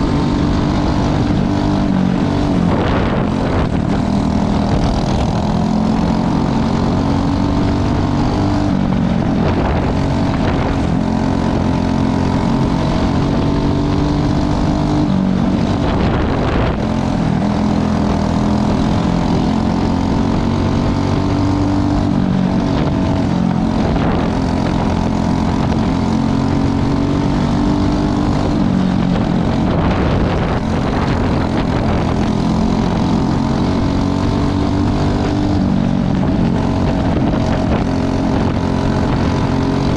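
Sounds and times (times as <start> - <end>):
kart engines racing: 0.0 - 39.9.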